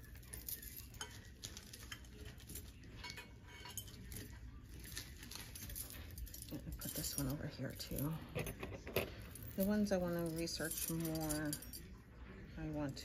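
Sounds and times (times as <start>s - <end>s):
metal jewellery clinking: 0.0s - 12.0s.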